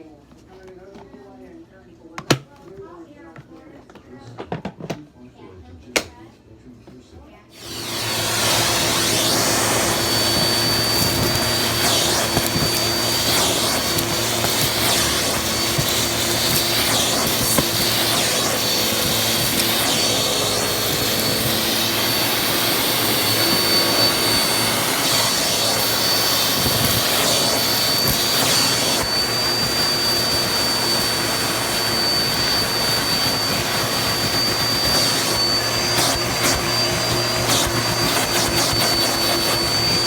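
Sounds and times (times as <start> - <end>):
vacuum cleaner running: 7.5 - 40.0.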